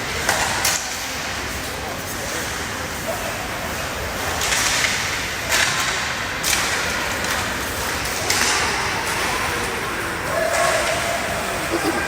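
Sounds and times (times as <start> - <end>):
ice rink background noise: 0.0 - 12.0.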